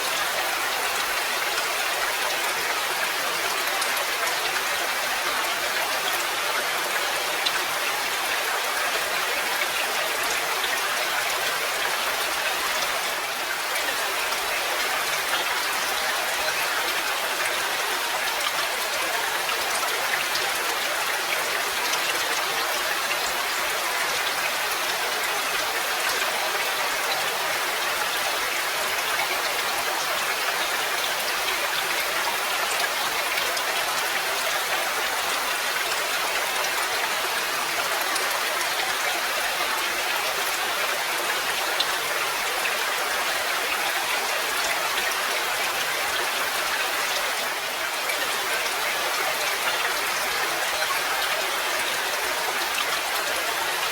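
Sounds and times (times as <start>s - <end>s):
raindrops pattering on surfaces: 0.0s - 53.9s.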